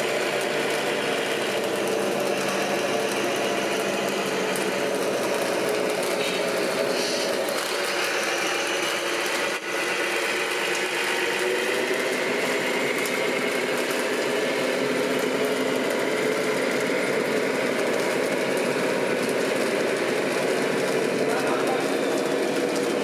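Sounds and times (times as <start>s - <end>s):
electric model truck motors whining: 0.0s - 23.0s.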